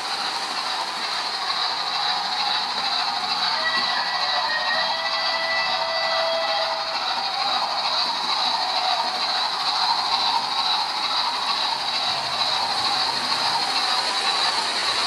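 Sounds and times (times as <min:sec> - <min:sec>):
model train motor whir and rattle: 0:00.0 - 0:15.0.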